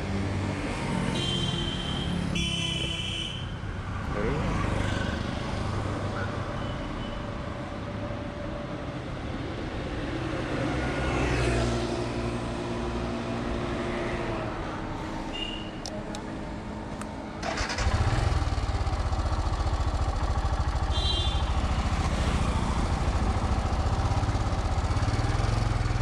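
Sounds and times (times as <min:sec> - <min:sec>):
traffic rumble: 0:03.6 - 0:26.0.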